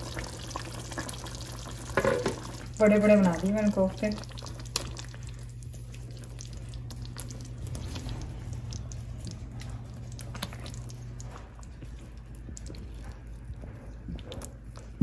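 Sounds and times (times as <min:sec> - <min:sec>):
gravy squelching and popping: 0:00.0 - 0:15.0
steady low hum: 0:00.0 - 0:15.0.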